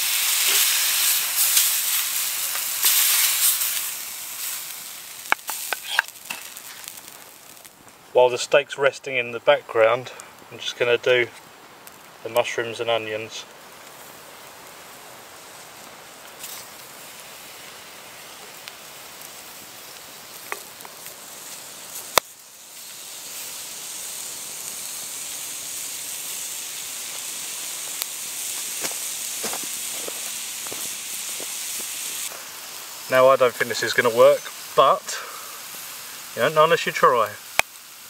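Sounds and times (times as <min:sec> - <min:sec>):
food sizzling on a salt block: 0:00.0 - 0:38.0.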